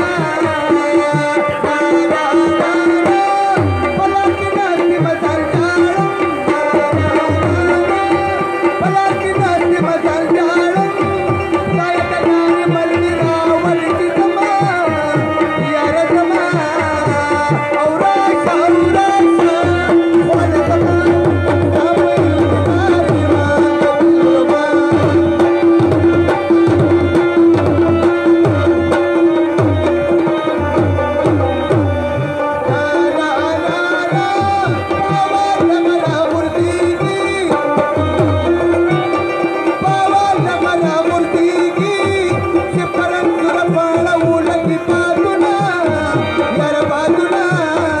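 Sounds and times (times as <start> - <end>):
fast tabla drumming: 0.0 - 48.0.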